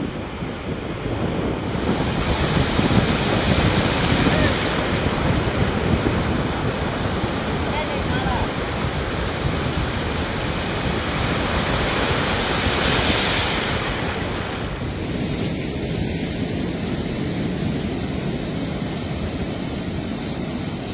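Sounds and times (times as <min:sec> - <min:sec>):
heavy surf pounding shore: 0:00.0 - 0:20.9
strong wind: 0:00.0 - 0:20.9
wind buffeting microphone: 0:00.0 - 0:20.9.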